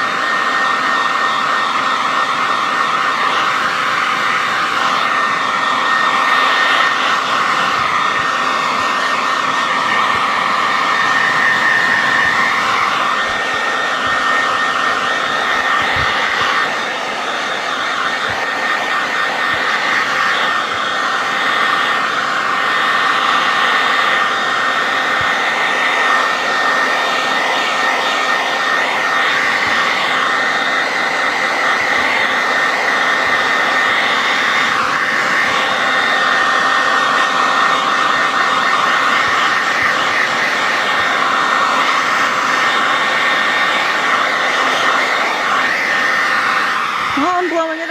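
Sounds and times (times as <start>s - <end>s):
hairdryer blowing air: 0.0s - 47.9s.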